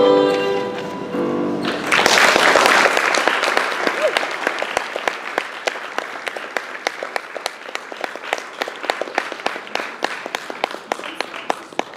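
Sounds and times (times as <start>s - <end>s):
audience applauding: 1.6s - 11.9s.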